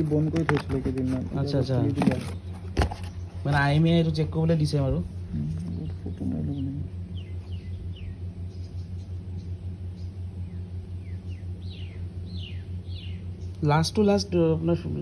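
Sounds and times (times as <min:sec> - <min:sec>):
birds chirping: 0:00.0 - 0:15.0
motorcycle engine idling: 0:00.0 - 0:15.0.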